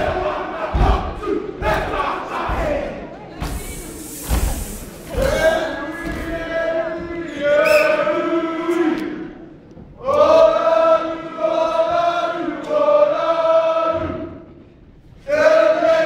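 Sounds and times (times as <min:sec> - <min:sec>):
boys and men singing in unison: 0:00.0 - 0:03.0, 0:05.1 - 0:14.5, 0:15.2 - 0:16.0.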